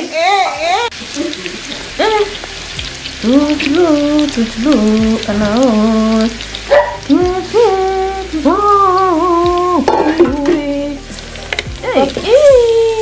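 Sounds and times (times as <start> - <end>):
meat and onions sizzling: 0.0 - 13.0
slow melody of gliding notes: 1.0 - 13.0.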